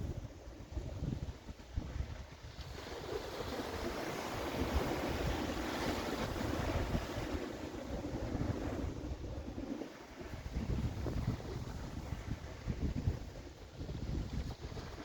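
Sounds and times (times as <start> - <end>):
sea surf washing on shore: 0.0 - 15.0
wind gusting on microphone: 0.0 - 15.0.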